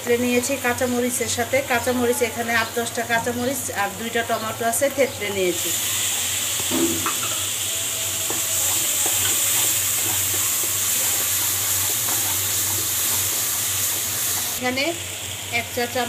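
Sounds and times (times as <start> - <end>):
masala sizzling in hot oil: 0.0 - 16.0.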